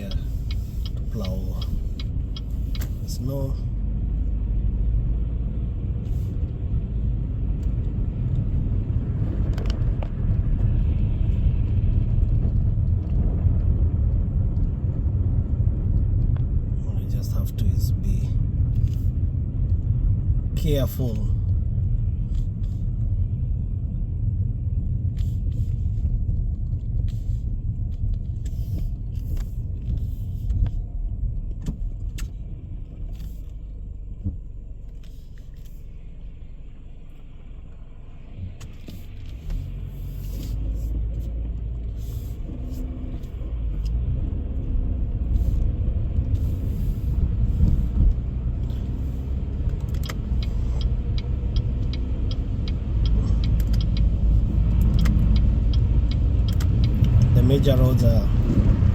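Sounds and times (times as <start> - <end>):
car road and engine rumble: 0.0 - 58.9.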